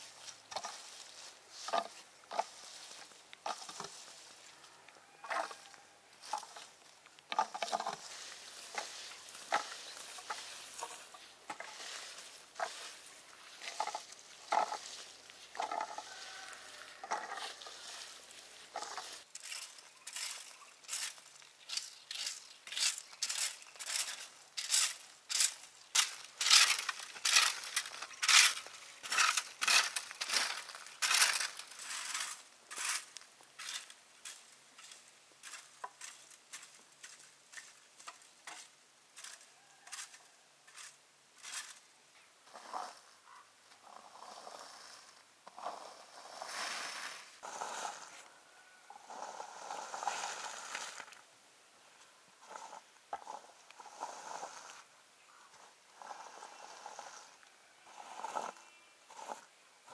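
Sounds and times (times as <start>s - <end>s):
rake scraping through leaves: 0.0s - 41.8s, 42.4s - 43.2s, 43.8s - 51.2s, 52.4s - 54.9s, 55.5s - 59.9s.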